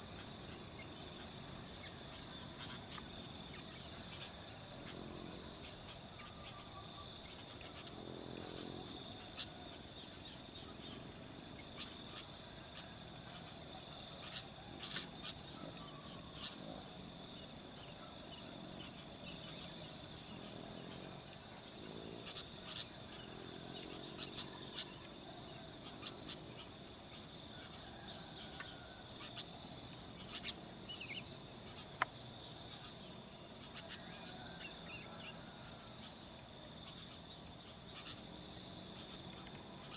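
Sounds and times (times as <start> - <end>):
insects whining: 0.0 - 39.9
pulsing insect trill: 0.0 - 39.9.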